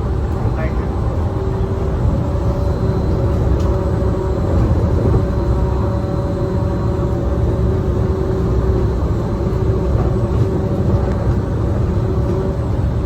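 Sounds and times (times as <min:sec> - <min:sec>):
monorail train rumble: 0:00.0 - 0:13.0
steady hum: 0:00.0 - 0:13.0.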